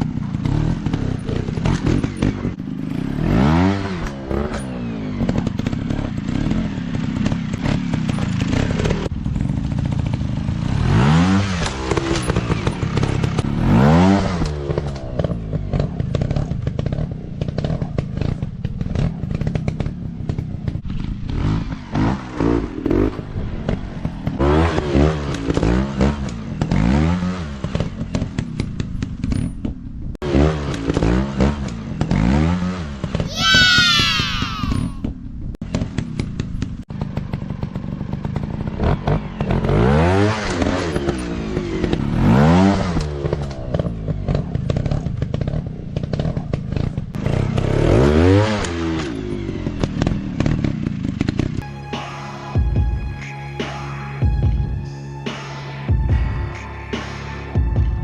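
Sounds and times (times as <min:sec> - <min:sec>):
dirt bike engine revving: 0:00.0 - 0:29.4, 0:30.2 - 0:35.0, 0:35.7 - 0:51.6
clatter: 0:00.0 - 0:33.3, 0:35.0 - 0:51.6.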